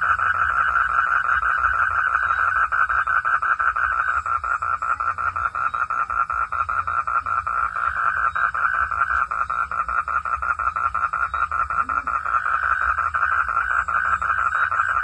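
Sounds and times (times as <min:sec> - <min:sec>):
frogs croaking in chorus: 0:00.0 - 0:15.0.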